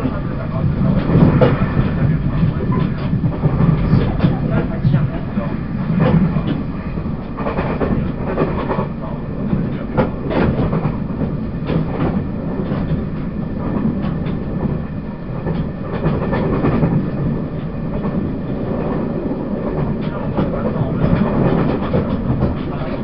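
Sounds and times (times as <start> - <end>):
train running rumble: 0.0 - 23.0
wheels clicking on track: 0.0 - 23.0.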